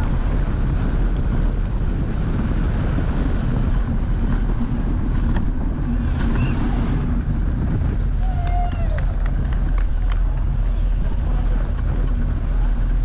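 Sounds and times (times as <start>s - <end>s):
wheels rolling on asphalt: 0.0s - 13.0s
wind rushing over microphone: 0.0s - 13.0s.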